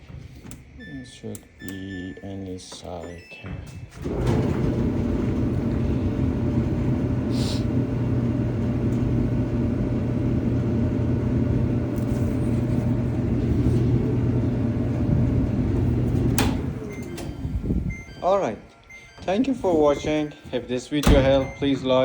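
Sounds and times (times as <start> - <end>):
clothes dryer running: 3.7 - 22.0.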